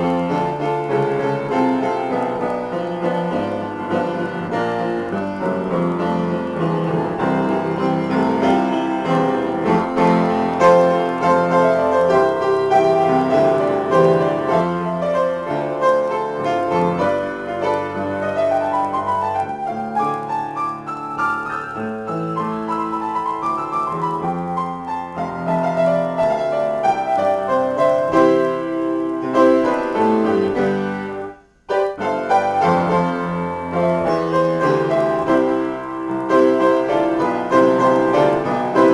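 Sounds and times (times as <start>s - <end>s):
solo piano improvisation: 0.0s - 38.9s.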